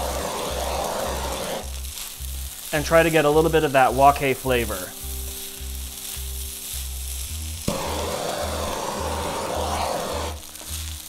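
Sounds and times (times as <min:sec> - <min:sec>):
blowtorch flame hissing: 0:00.0 - 0:11.0
rice sizzling in a wok: 0:00.0 - 0:11.0.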